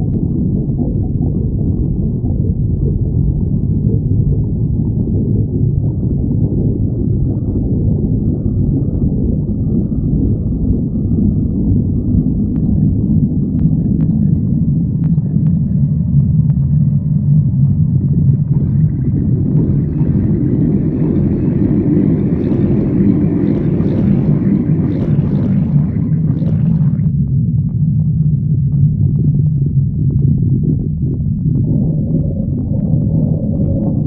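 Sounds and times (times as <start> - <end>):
stomach growling: 0.0 - 34.0.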